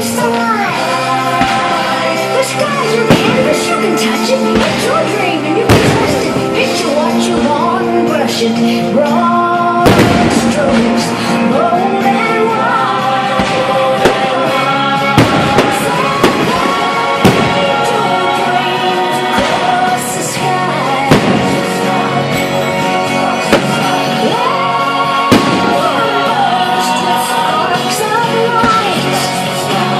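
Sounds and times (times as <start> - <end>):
fireworks bursting: 0.0 - 7.6, 9.7 - 29.9
loud pop music with singing: 0.0 - 29.9.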